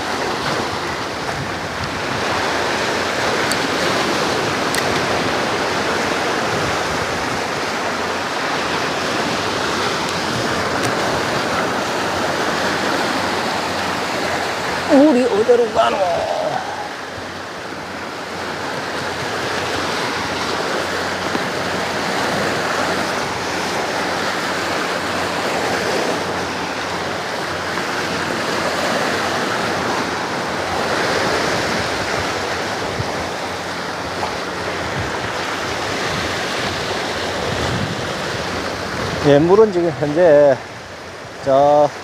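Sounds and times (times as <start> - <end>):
sea surf washing against rocks: 0.0 - 42.0.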